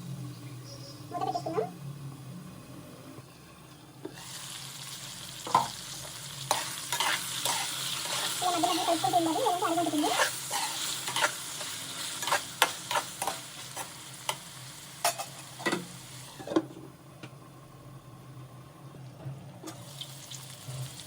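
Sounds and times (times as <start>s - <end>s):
frying sizzle: 0.0s - 17.9s, 19.5s - 21.0s.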